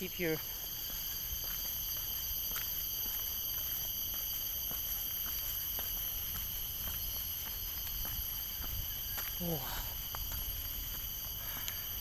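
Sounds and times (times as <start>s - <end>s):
crickets chirping: 0.0s - 12.0s
faint footsteps on trail: 0.0s - 12.0s.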